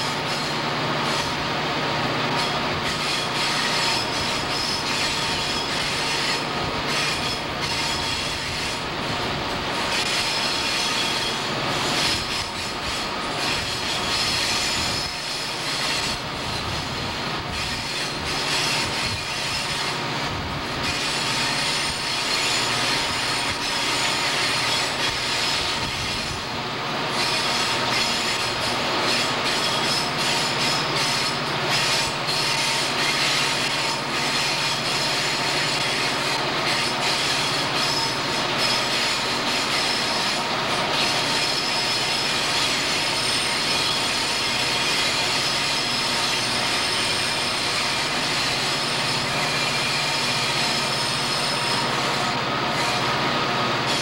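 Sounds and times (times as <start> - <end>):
diesel locomotive engines running: 0.0 - 54.0
steel wheels squealing on rail: 0.0 - 54.0.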